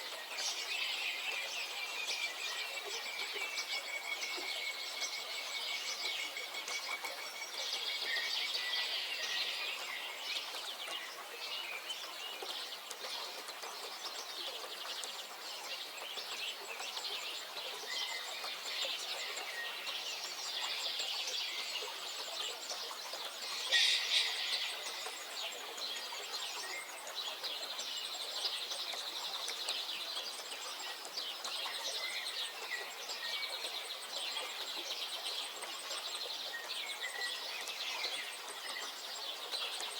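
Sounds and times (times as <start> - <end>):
wild birds singing and chirping: 0.0 - 39.9.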